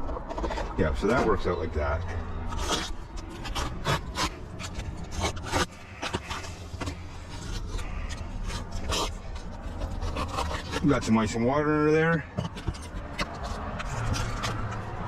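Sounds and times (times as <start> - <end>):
scraping on roof shingles: 0.0 - 11.3, 12.0 - 15.0.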